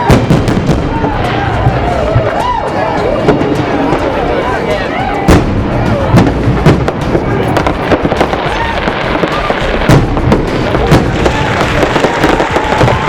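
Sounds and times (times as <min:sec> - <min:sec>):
crowd voices: 0:00.0 - 0:13.0
fireworks bangs and cracks: 0:00.0 - 0:13.0.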